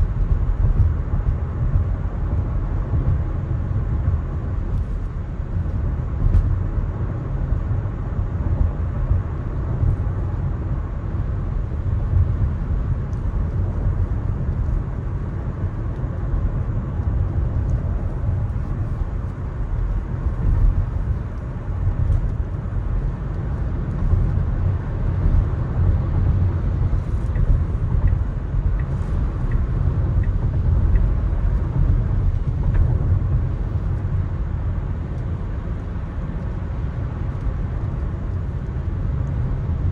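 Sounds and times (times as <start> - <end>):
car tyres on wet road: 0.0 - 39.9.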